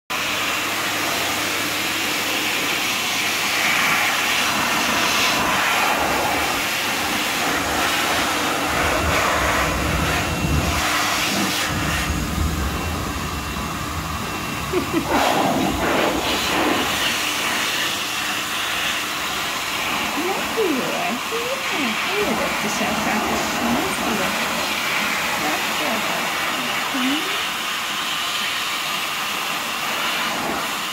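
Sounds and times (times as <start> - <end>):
dog dryer blowing air: 0.1 - 30.9.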